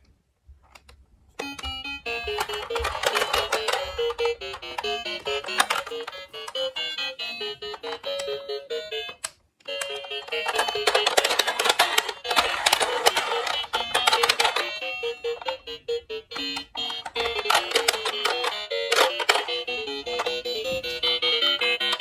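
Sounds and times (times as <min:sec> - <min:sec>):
toy electronic beeping tunes: 0:01.4 - 0:22.0.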